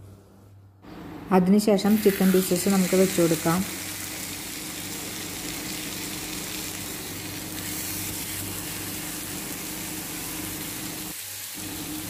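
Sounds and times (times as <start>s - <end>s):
chicken sizzling on a hot pan: 1.9s - 12.0s.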